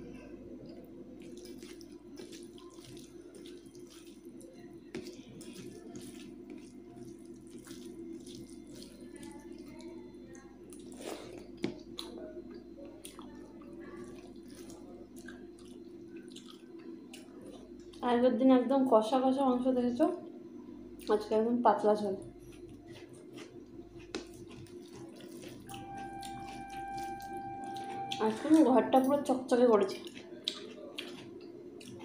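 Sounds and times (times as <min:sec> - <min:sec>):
wet squishing of rice: 0:00.7 - 0:18.0, 0:22.2 - 0:28.7, 0:29.8 - 0:32.0.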